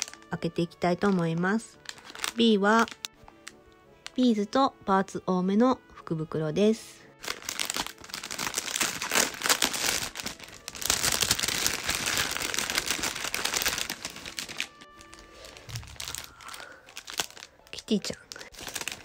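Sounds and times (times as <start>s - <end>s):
plastic bag crinkling: 0.0s - 4.2s, 7.1s - 19.0s.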